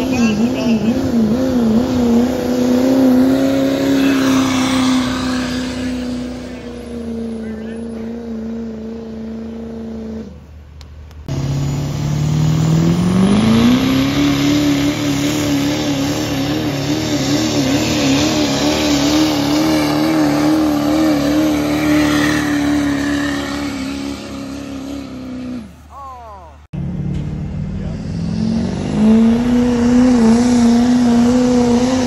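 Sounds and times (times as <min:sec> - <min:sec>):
diesel truck engine revving: 0:00.0 - 0:32.0.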